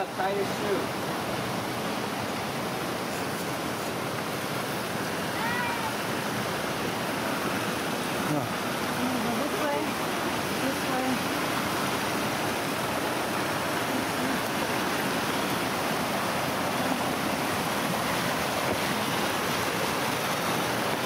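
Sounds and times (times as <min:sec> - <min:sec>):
creek flowing over boulders: 0:00.0 - 0:21.0.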